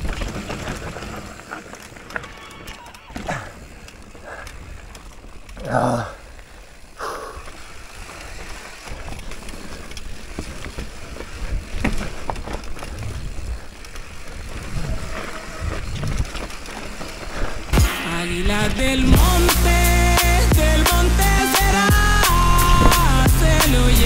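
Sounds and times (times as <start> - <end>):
bike clicks and knocks: 0.0 - 24.0
tyres rumbling on dirt: 0.0 - 24.0.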